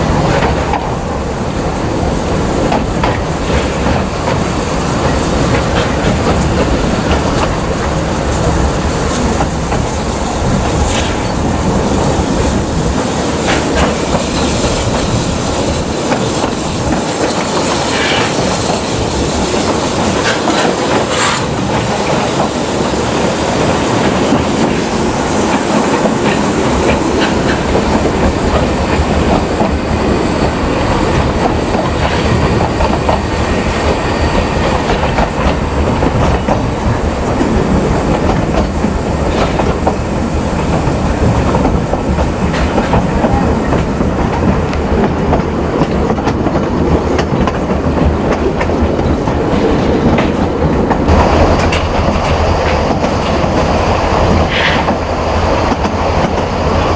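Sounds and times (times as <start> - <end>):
train coaches rumbling: 0.0 - 56.9
wheels clicking over rail joints: 0.1 - 56.9.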